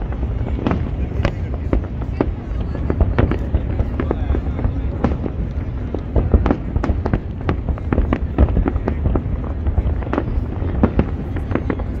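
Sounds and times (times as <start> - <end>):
continuous low rumble: 0.0 - 12.0
fireworks booms and cracks: 0.0 - 12.0.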